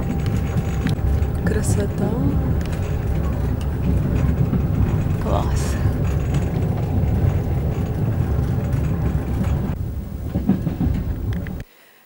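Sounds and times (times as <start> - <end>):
train rumbling inside carriage: 0.0 - 11.8.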